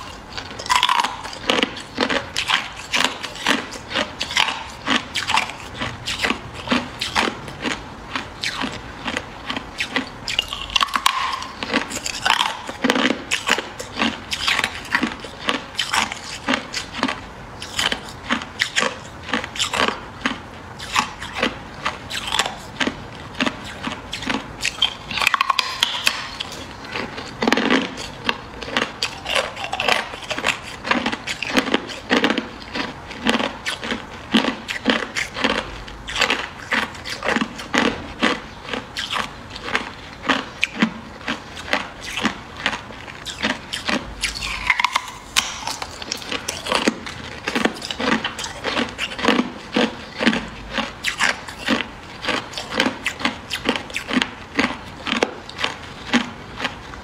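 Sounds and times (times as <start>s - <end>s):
ice crunching while chewed: 0.0s - 57.0s.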